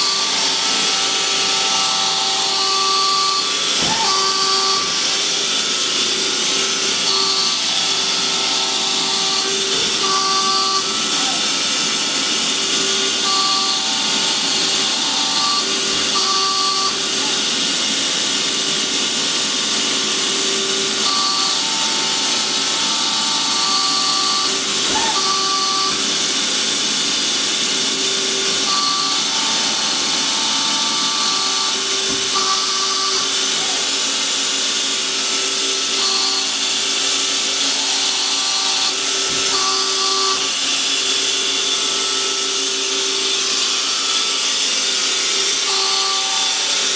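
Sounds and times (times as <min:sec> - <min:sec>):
short whining tones: 0:00.0 - 0:18.8, 0:19.4 - 0:46.9
hydraulic press machine hum: 0:00.0 - 0:46.9.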